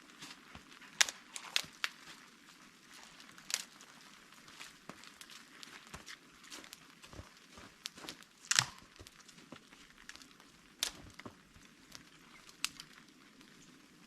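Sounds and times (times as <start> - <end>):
crinkling and clicking handling: 0.0 - 13.6.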